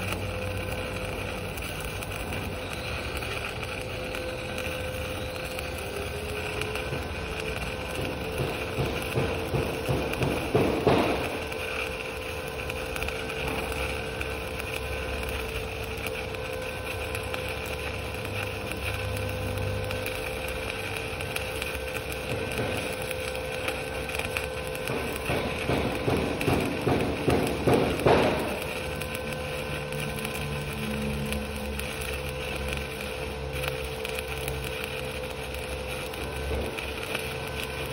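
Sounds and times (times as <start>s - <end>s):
welding arc crackling and hissing: 0.0s - 37.9s.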